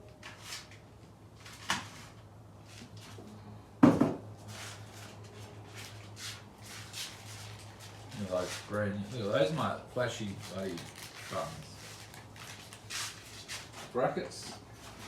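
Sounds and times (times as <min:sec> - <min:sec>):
objects rustling and scraping: 0:00.0 - 0:15.0.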